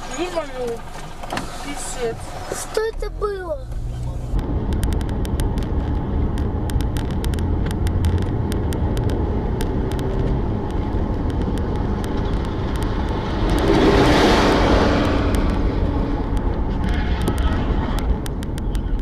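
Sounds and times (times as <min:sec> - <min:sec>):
car engine and road rumble: 0:00.0 - 0:19.0
vehicle passing rush: 0:00.0 - 0:19.0.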